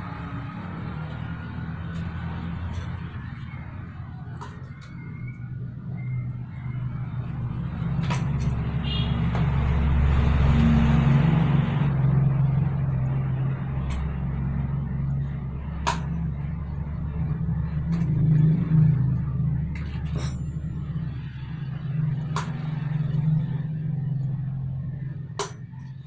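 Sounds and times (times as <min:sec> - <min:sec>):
vehicle engine droning: 0:00.0 - 0:26.0.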